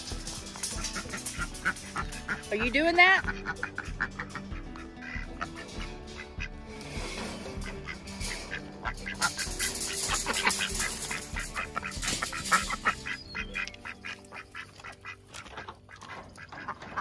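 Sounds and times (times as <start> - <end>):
ducks quacking: 0.0 - 17.0
faint background music: 0.0 - 17.0.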